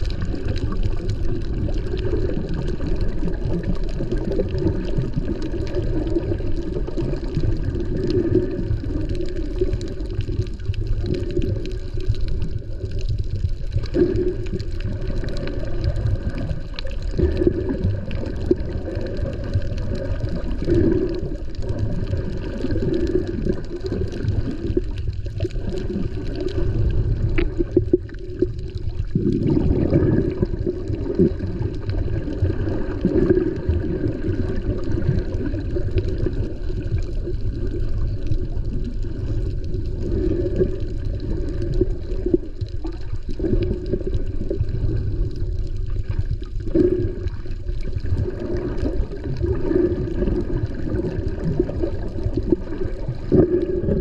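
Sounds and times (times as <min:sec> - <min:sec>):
muffled water sloshing: 0:00.0 - 0:54.0.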